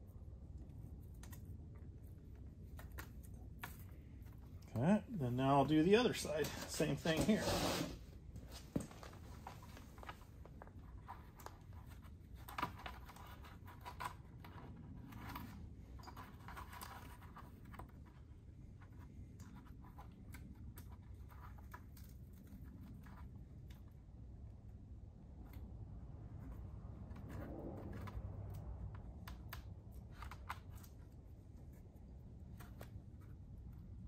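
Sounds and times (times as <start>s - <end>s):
low room hum: 0.0s - 34.0s.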